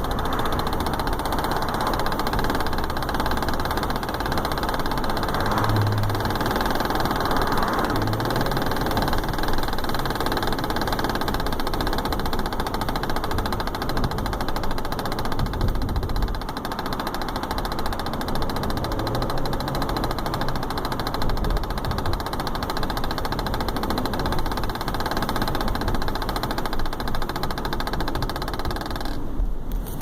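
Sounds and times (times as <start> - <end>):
car running noise: 0.0 - 30.0.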